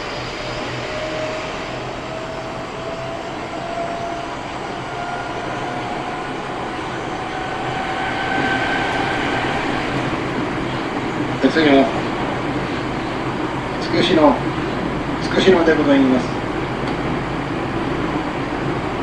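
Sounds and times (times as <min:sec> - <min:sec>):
subway car motor whine: 0:00.0 - 0:19.0.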